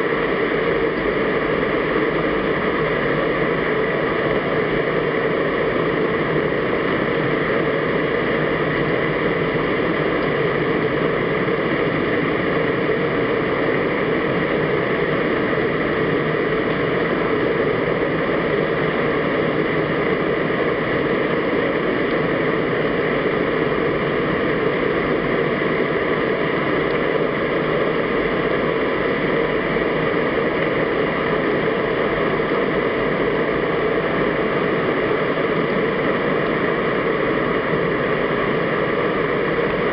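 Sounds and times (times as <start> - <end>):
faint steady hums: 0.0 - 39.9.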